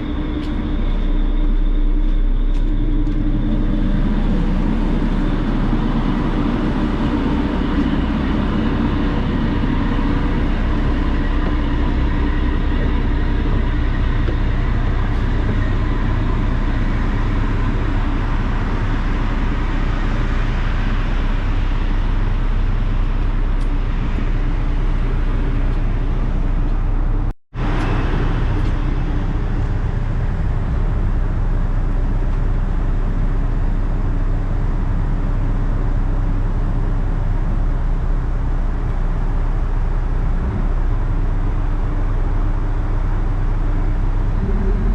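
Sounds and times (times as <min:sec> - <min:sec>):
boat engine hum: 0:00.0 - 0:44.9.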